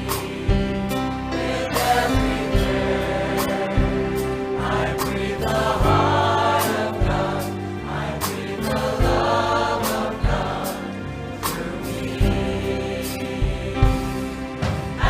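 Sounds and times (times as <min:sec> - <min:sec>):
band with bass and drums: 0:00.0 - 0:15.0
choir singing gospel music: 0:00.0 - 0:15.0.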